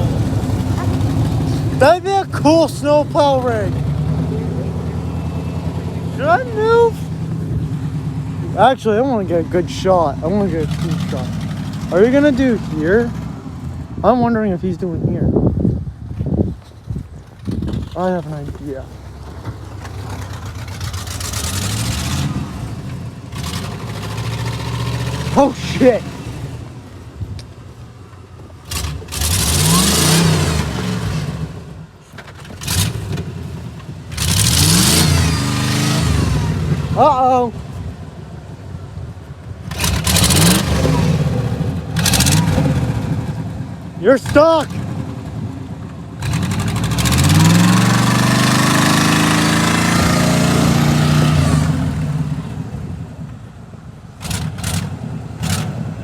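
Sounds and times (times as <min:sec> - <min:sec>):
vehicle engine revving: 0:00.0 - 0:15.1, 0:17.3 - 0:27.7, 0:28.4 - 0:53.4, 0:54.1 - 0:56.0.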